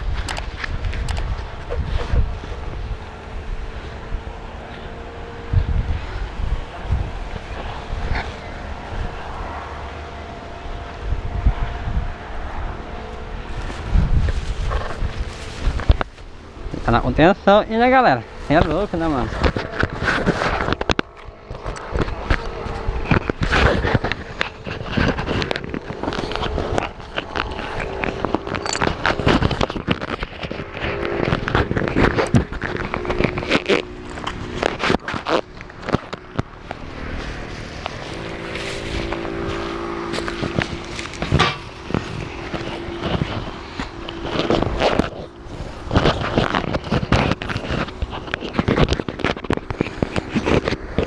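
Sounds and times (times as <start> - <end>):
rustling and crackling: 0.0 - 51.0
wind buffeting microphone: 0.0 - 51.0.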